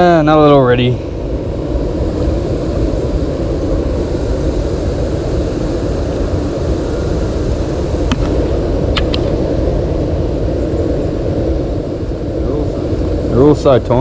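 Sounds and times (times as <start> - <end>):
steady low rumbling: 0.0 - 14.0.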